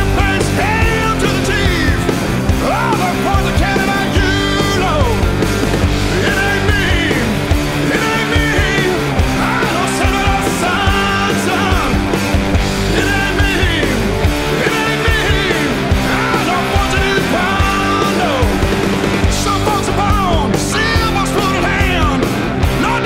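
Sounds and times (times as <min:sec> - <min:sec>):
rock music: 0:00.0 - 0:23.0.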